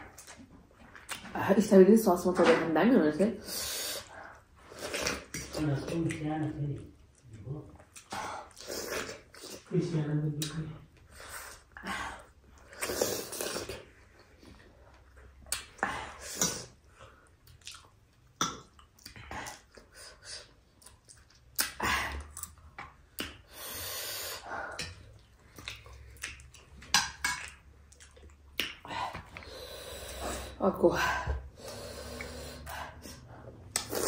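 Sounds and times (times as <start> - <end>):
person chewing food: 0.0 - 1.3, 3.7 - 9.7, 10.4 - 30.6, 31.5 - 34.0.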